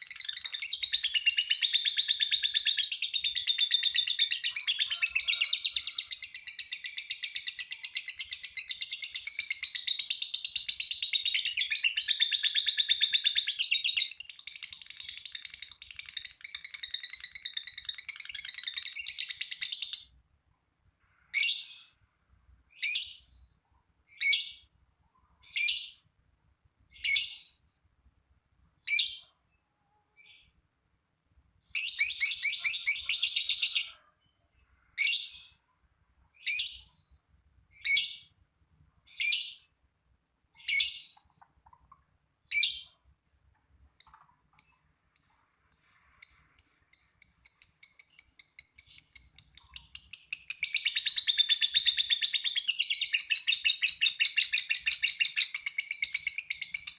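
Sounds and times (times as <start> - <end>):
lovebird chirping and chattering: 0.0 - 20.2, 21.3 - 22.0, 22.7 - 24.7, 25.4 - 26.1, 26.9 - 27.8, 28.8 - 29.4, 30.2 - 30.6, 31.7 - 34.0, 34.9 - 35.7, 36.4 - 38.4, 39.0 - 39.8, 40.5 - 56.9.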